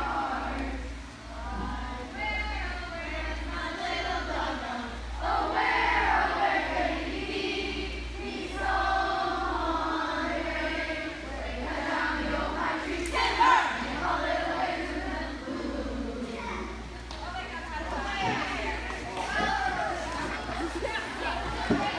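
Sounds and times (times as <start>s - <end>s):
young voices singing together: 0.0s - 21.9s.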